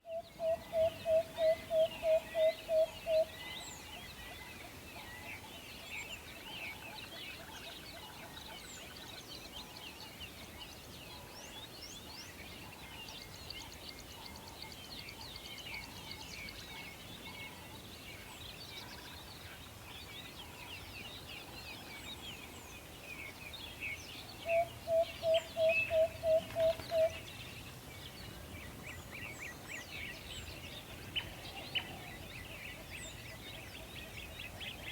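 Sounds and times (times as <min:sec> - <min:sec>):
birds chirping and singing: 0:00.0 - 0:34.9.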